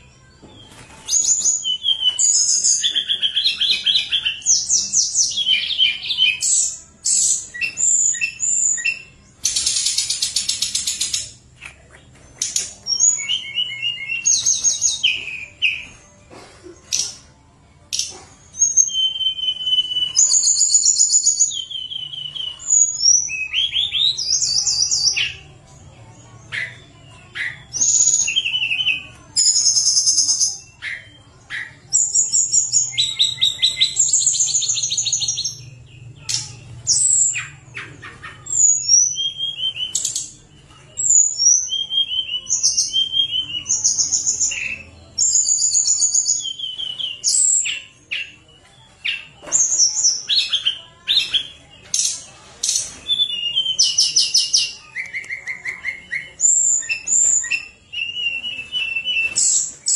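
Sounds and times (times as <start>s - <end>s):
bird singing whistled trills: 0.6s - 11.4s, 12.4s - 16.0s, 17.9s - 25.4s, 26.5s - 59.9s.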